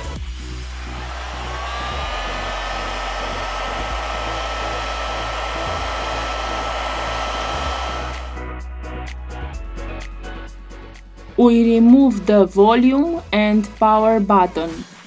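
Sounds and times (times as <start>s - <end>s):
background music with beat: 0.0s - 15.0s.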